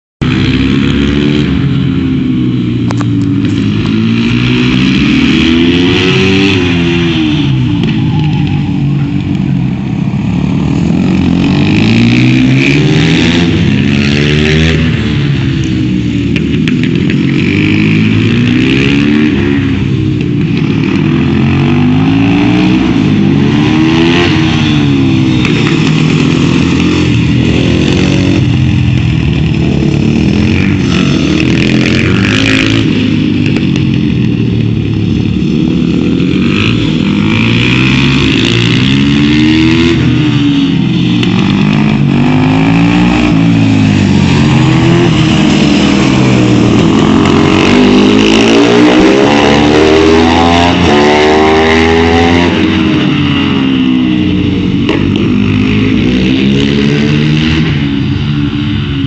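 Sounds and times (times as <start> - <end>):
motorcycle engines revving: 0.2 - 59.0.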